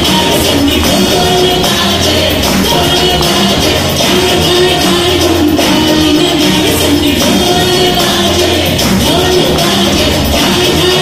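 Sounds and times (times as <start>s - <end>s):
loud dance music: 0.0s - 11.0s
person singing: 0.0s - 11.0s.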